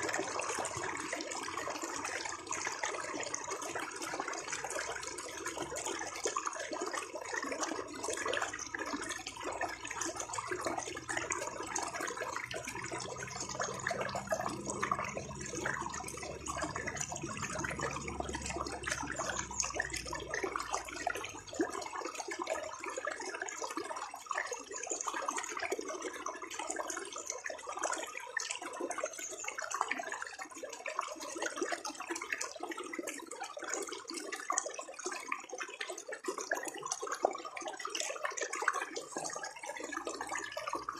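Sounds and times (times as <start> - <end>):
shallow water babbling: 0.0 - 40.9.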